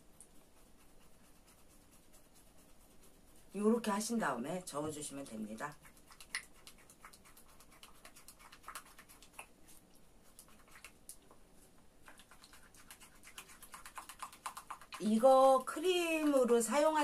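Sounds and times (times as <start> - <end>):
spatula stirring cream in bowl: 0.0 - 17.0.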